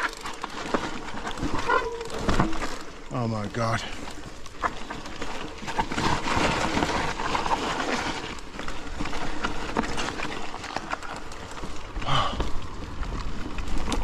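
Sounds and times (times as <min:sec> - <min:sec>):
bike knocking and rattling: 0:00.0 - 0:14.0
bike tyres crunching on dirt: 0:00.0 - 0:14.0.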